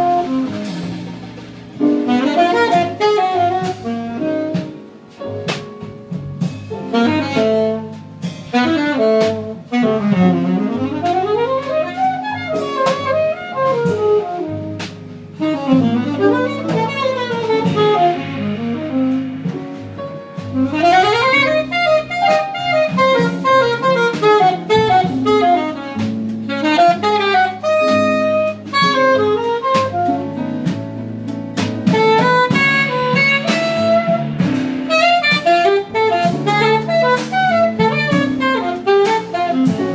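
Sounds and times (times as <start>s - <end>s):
alto saxophone solo: 0.0s - 1.2s, 1.8s - 5.6s, 6.7s - 30.8s, 31.8s - 39.9s
double bass: 0.0s - 39.9s
drum kit with cymbals: 0.0s - 39.9s.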